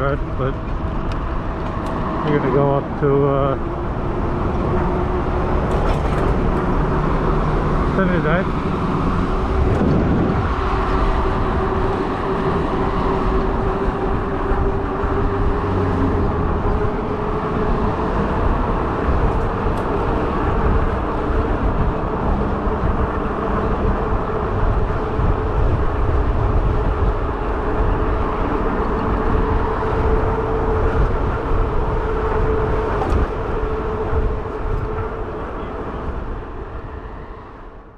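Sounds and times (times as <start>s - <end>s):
e-bike tyres and drive humming: 0.0s - 37.9s
wind rumbling on microphone: 0.0s - 37.9s.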